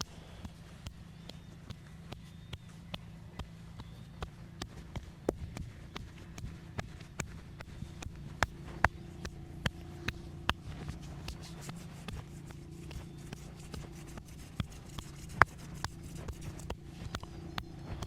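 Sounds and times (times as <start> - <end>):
hands slapping and tapping body: 0.0 - 18.0
low steady hum: 0.0 - 18.0.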